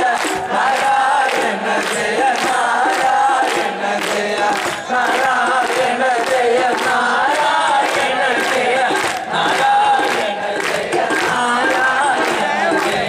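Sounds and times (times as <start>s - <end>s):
men singing together: 0.0s - 13.0s
steady drum beat: 0.0s - 13.0s.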